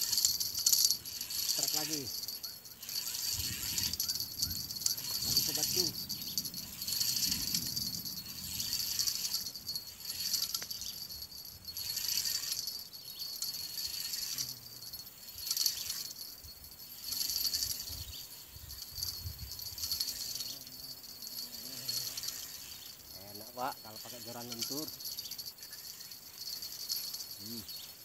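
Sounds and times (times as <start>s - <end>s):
fishing reel whirring: 0.0s - 28.0s.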